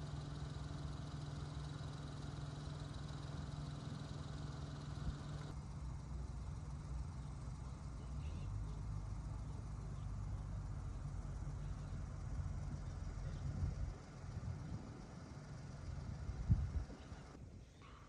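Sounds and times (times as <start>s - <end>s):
low hum and rumble: 0.0s - 18.0s.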